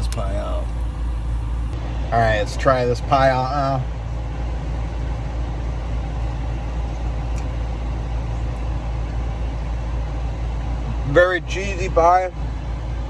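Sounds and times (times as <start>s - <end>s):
air conditioning hum: 0.1s - 13.0s
car engine idling: 1.8s - 13.0s.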